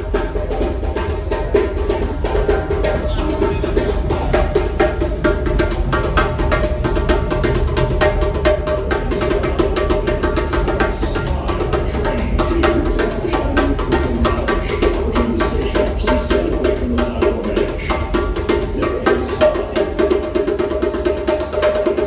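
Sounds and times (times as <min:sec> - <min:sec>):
djembe slaps and tones: 0:00.0 - 0:22.0.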